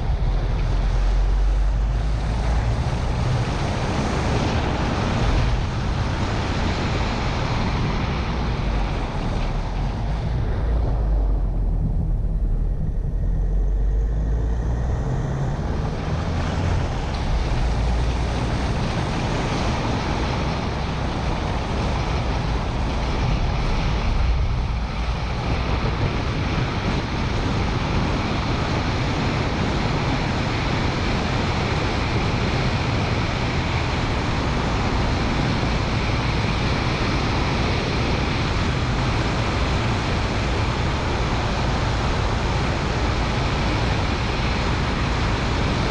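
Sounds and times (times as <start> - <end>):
car engine: 0.0 - 45.9
wind noise: 0.0 - 45.9.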